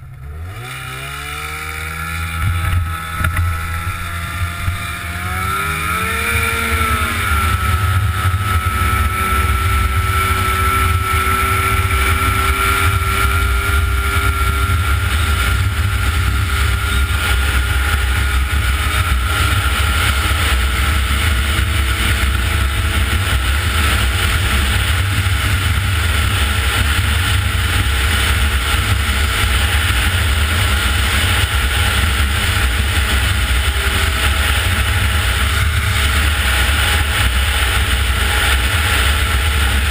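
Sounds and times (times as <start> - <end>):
snowmobile engine: 0.0 - 39.9.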